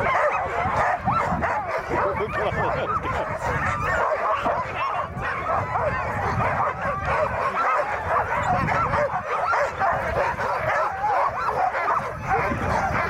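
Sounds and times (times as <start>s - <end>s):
sled dogs yelping and barking: 0.0s - 13.0s.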